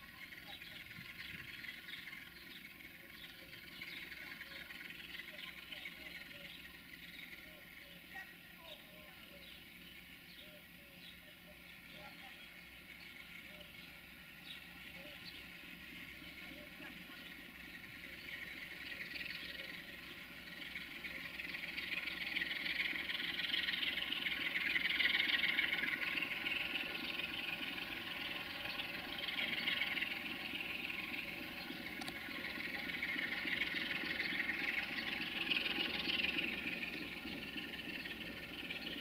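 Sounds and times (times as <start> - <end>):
diesel locomotive idling: 0.0 - 39.0
shrill chorus of insects: 0.0 - 39.0.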